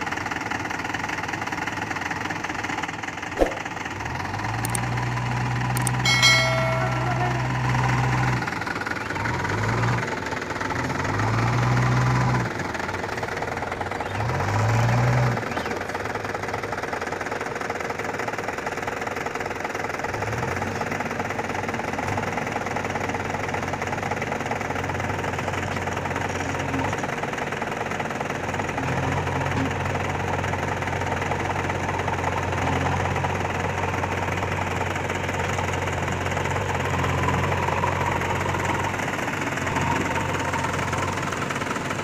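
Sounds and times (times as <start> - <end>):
backhoe loader engine: 0.0 - 42.0
diesel tractor engine revving: 0.0 - 42.0.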